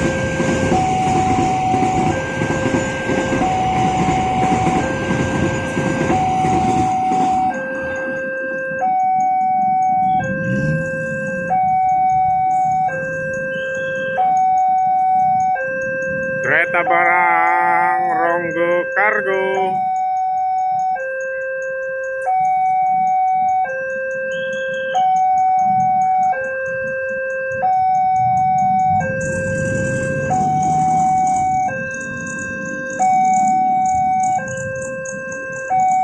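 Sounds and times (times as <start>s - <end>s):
crossing alarm two-tone signal: 0.0s - 36.0s.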